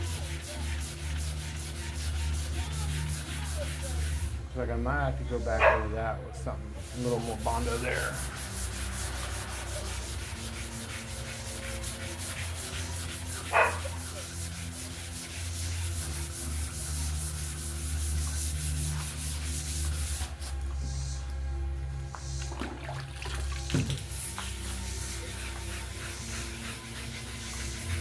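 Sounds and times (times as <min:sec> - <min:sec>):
wet sandpaper scratching: 0:00.0 - 0:04.4, 0:06.8 - 0:21.2, 0:23.9 - 0:28.0.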